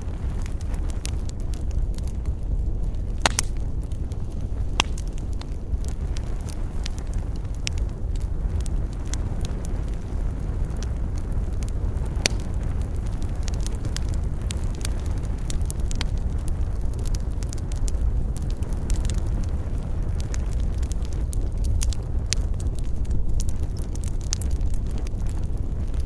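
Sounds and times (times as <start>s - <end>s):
campfire crackling: 0.0s - 26.0s
low fire rumble: 0.0s - 26.0s.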